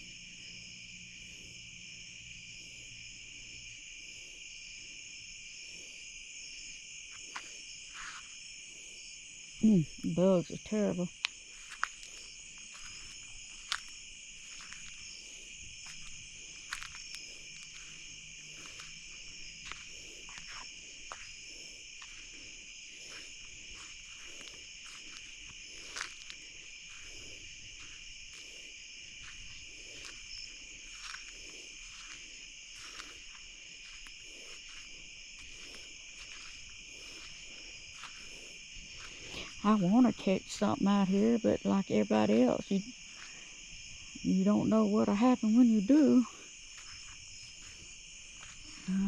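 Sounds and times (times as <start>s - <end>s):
crickets and insects trilling: 0.0s - 49.0s.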